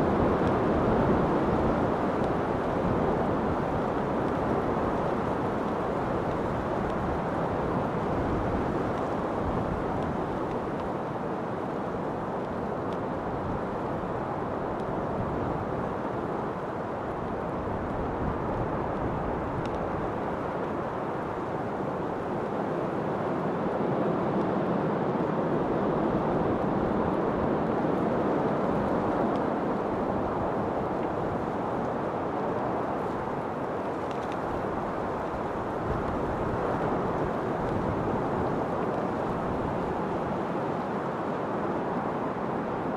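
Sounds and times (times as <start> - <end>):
rushing wind: 0.0 - 42.9.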